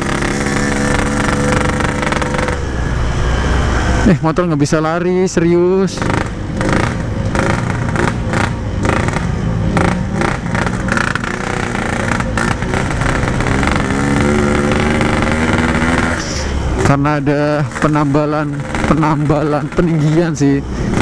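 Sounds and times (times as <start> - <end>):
two-stroke motorcycle engine running: 0.0 - 3.0, 5.9 - 21.0.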